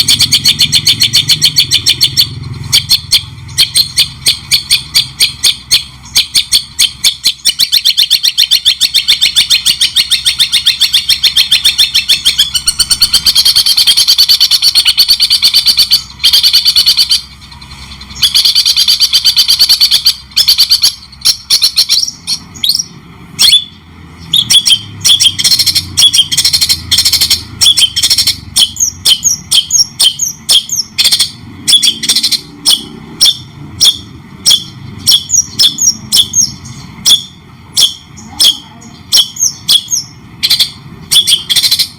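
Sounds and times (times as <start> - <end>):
bird chipping notes: 0.0 - 41.9.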